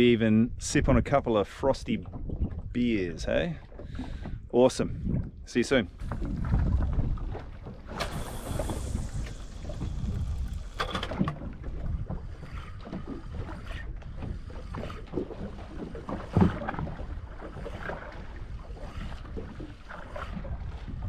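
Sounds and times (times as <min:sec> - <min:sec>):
water against boat hull: 0:00.0 - 0:21.0
wind buffeting microphone: 0:00.0 - 0:21.0.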